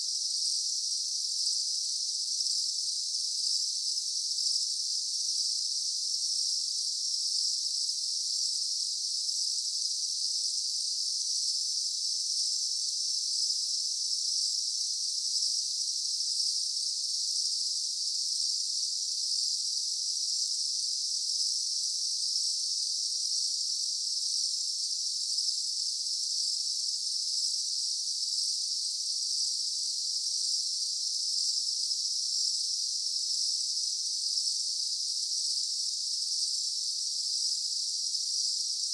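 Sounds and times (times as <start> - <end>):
insect chorus buzzing trill: 2.4 - 38.9.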